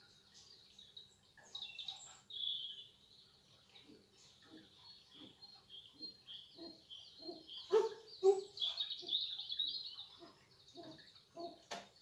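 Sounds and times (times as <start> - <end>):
songbirds chirping and singing: 0.0 - 12.0.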